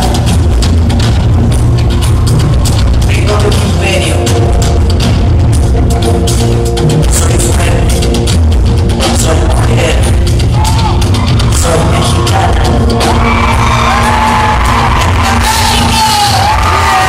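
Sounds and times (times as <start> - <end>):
live pop-rock band: 0.0 - 17.0.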